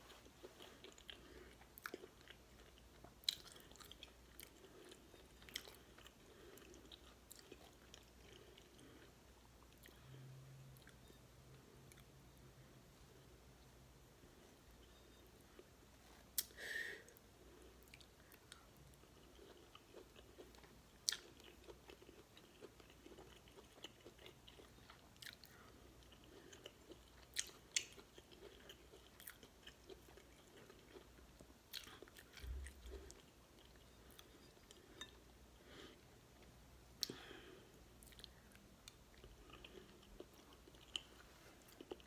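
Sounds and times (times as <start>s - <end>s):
person chewing: 0.0s - 10.2s, 17.4s - 42.0s.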